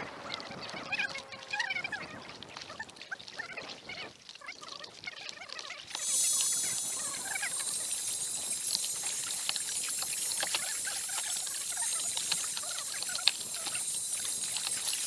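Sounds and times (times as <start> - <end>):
water pouring and trickling: 0.0 - 15.0.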